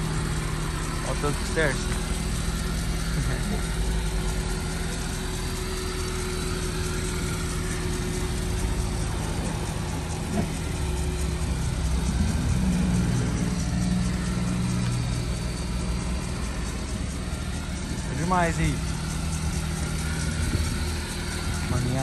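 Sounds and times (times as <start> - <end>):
pickup engine idling: 0.0 - 22.0.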